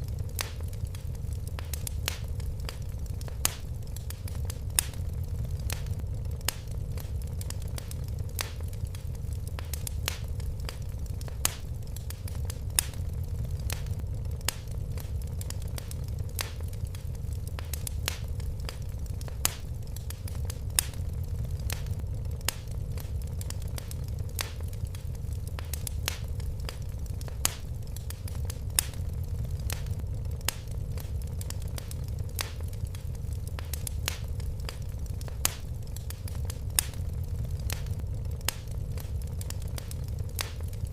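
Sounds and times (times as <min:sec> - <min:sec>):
fire crackling and popping: 0:00.0 - 0:40.9
flames rumbling: 0:00.0 - 0:40.9.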